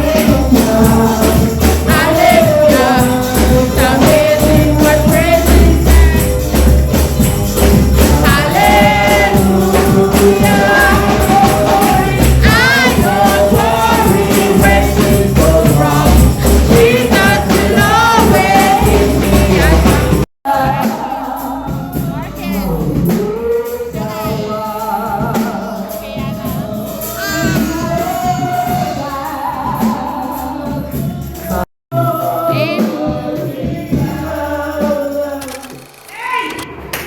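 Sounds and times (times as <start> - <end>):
band playing a steady beat: 0.0 - 35.9
tambourine: 0.0 - 35.9
group singing gospel: 0.0 - 36.8.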